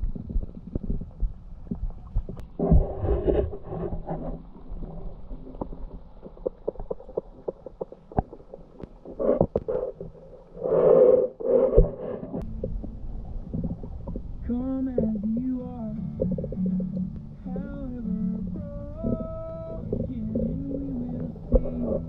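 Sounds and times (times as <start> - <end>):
underwater clicks and knocks: 0.0 - 18.0, 18.7 - 22.0
low underwater rumble: 0.0 - 22.0
muffled swells: 0.0 - 22.0.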